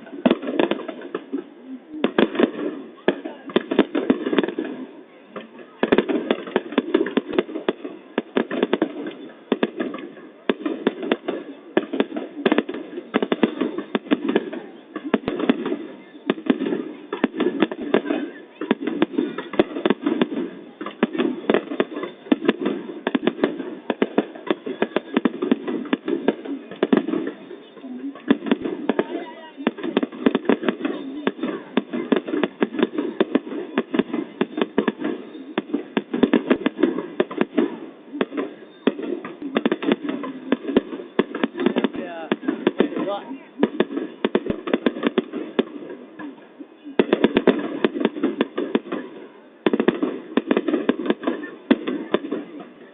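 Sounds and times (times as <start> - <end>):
fireworks bangs: 0.0 - 52.9
murmur of crowd voices: 0.0 - 52.9.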